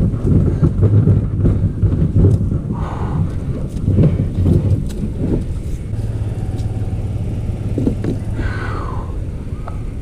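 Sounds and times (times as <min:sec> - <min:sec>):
plastic hull scraping over dirt: 0:00.0 - 0:08.5.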